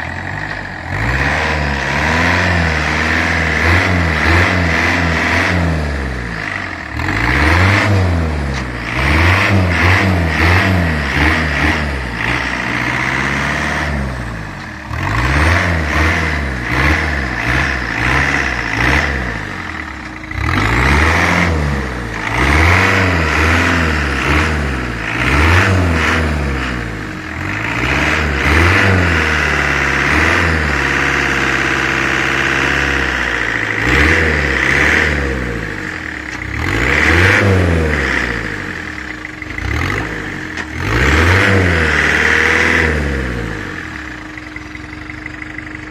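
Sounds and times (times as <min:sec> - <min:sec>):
tractor diesel engine revving: 0:00.0 - 0:45.9.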